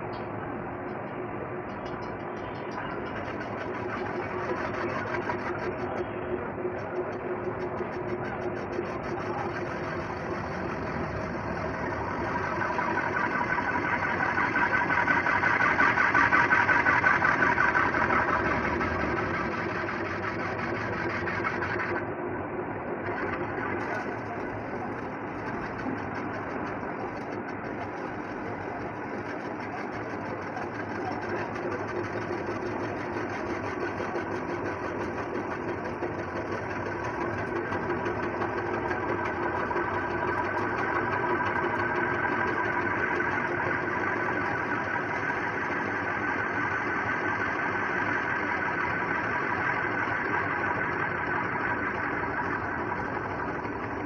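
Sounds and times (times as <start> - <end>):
workshop machinery running: 0.0 - 54.0.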